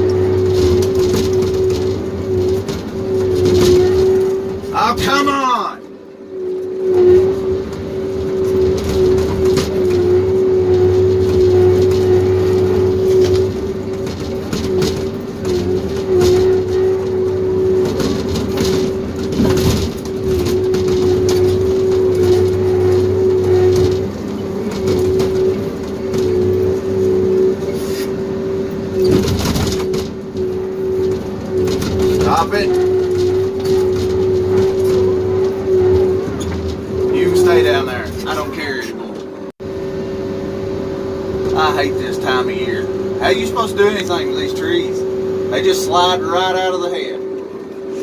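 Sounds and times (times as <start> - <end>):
diesel engine and hydraulics whine: 0.0 - 48.0.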